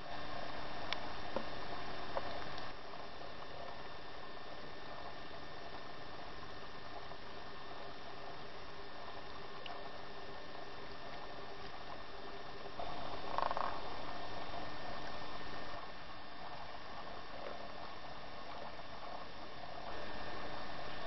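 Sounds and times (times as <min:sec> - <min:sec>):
camcorder hiss and hum: 0:00.0 - 0:21.0.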